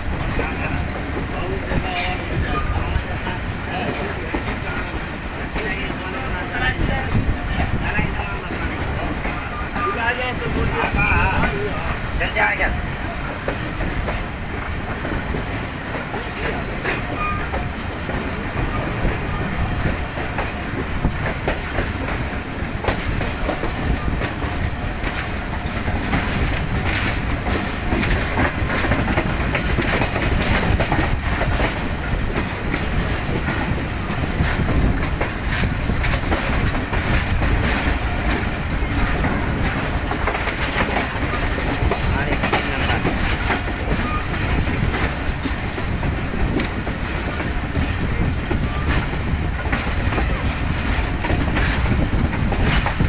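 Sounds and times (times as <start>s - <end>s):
train rumbling along track: 0.0s - 53.0s
wheels clacking over rails: 0.0s - 53.0s.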